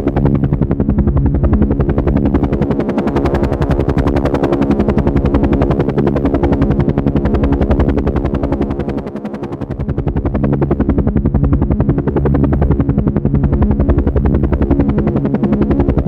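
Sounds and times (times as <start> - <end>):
engine and turbine drone: 0.0 - 16.0
helicopter rotor beating: 0.0 - 16.0.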